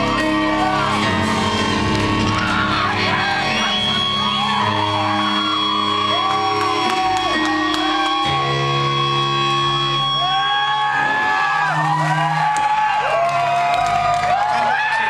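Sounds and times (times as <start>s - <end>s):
rock band playing loud: 0.0s - 12.6s
shouts over music: 0.0s - 15.0s.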